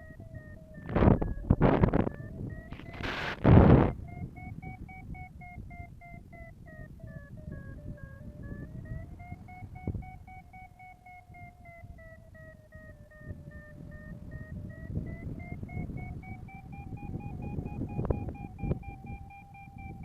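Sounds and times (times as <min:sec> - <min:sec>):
variometer rapid beeping: 0:00.0 - 0:20.0
wind noise rumbling: 0:00.0 - 0:20.0.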